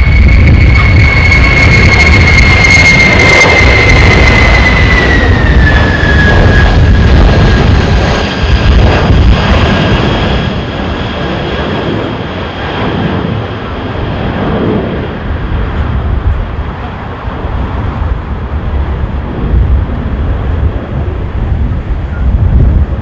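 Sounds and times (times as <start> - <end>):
jet engines whining: 0.0 - 23.0
wind buffeting microphone: 0.0 - 23.0.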